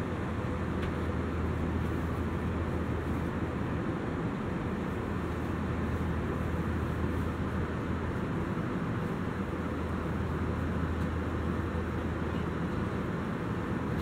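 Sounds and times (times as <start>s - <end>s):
jet engine drone: 0.0s - 14.0s.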